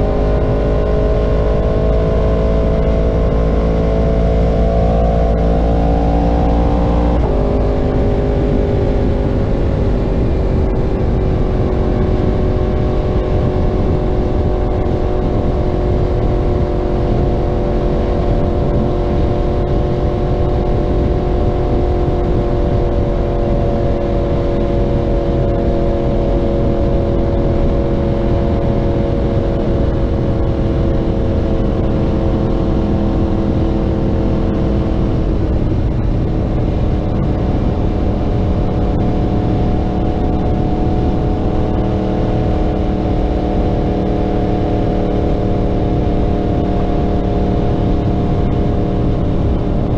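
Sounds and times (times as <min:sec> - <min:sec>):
motorcycle engine revving: 0:00.0 - 0:49.9
wind rumble on microphone: 0:00.0 - 0:49.9.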